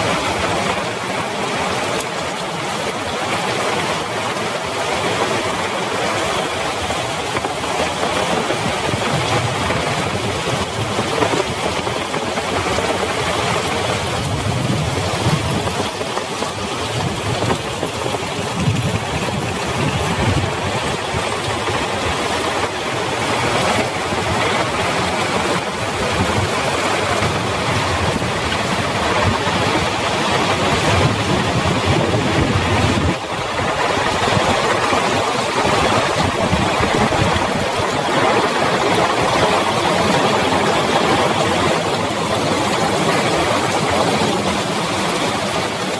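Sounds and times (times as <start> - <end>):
heavy rain hissing: 0.0 - 45.9.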